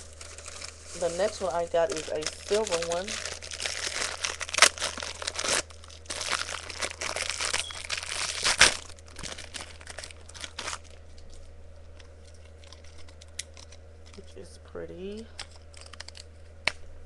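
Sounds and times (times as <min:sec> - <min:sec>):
bag crinkling and rustling: 0:00.0 - 0:14.2.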